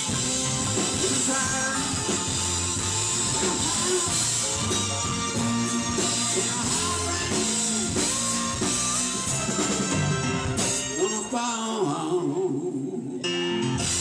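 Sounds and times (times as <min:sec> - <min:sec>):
live rock band playing: 0:00.0 - 0:12.4, 0:13.2 - 0:14.0.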